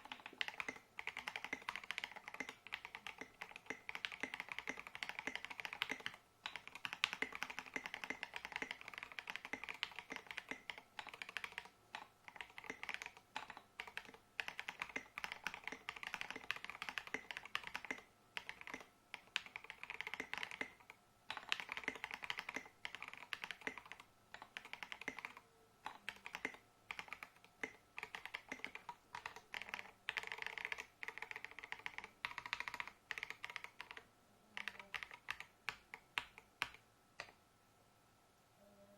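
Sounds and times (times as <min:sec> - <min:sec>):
mechanical keyboard typing: 0:00.0 - 0:37.4.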